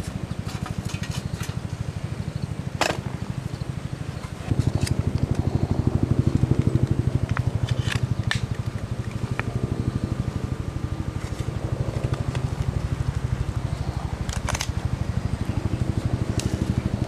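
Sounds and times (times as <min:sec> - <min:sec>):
campfire crackling: 0:00.0 - 0:17.0
low pulsing drone: 0:00.0 - 0:17.0.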